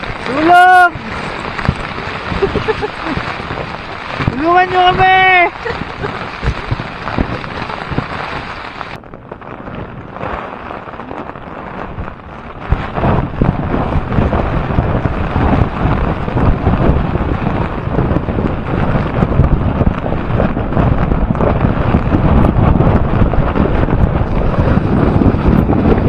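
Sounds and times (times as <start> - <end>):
rain beating on a tent: 0.0 - 26.0
tent fabric flapping: 0.0 - 26.0
wind buffeting microphone: 0.0 - 26.0.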